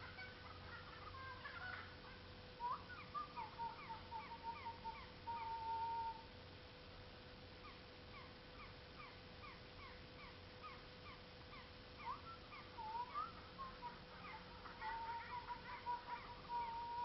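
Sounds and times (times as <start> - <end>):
birds chirping: 0.0 - 6.3, 7.6 - 17.0.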